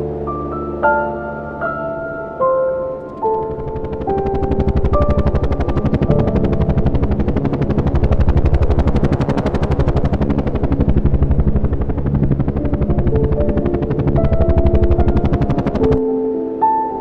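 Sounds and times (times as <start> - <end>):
synth music with fast pulse: 0.0 - 16.4.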